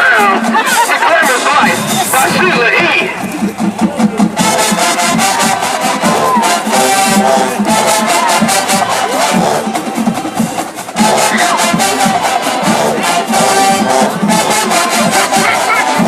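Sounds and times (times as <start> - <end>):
brass held notes: 0.0 - 16.0
crowd noise: 0.0 - 16.0
marching band playing: 0.0 - 16.0
steady drum beat: 0.0 - 16.0.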